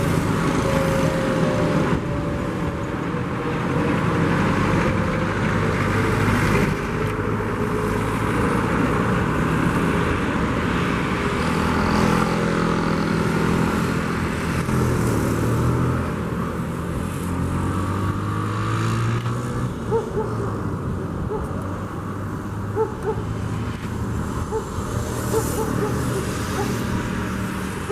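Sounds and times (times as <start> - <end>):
road noise: 0.0 - 27.9.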